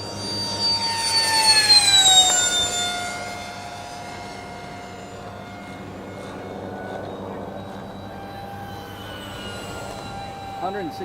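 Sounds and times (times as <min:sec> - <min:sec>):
model jet fan whining past: 0:00.0 - 0:11.0.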